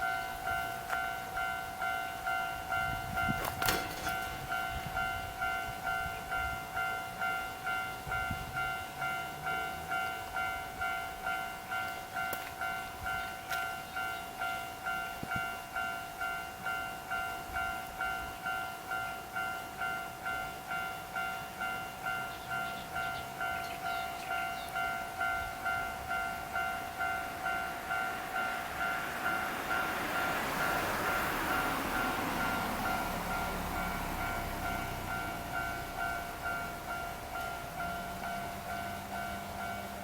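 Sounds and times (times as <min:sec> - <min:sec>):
electronic crossing bell ringing: 0:00.0 - 0:40.0.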